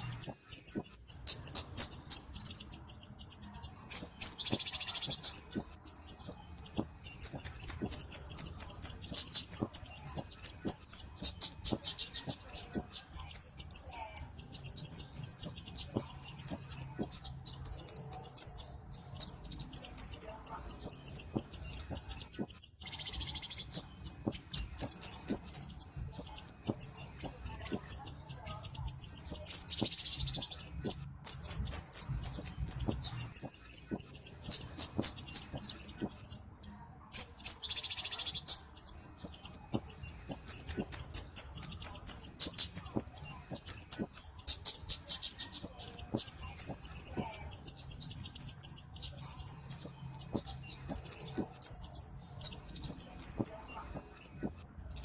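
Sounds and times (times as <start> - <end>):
bird high-pitched chipping notes: 0.0 - 55.0.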